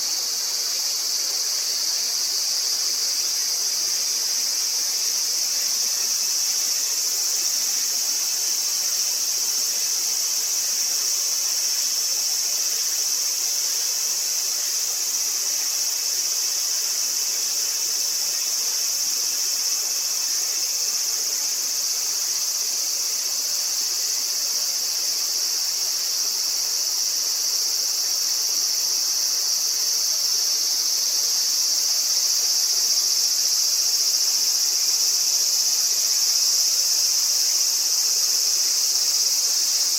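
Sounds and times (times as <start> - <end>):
insects buzzing trill: 0.0 - 39.9.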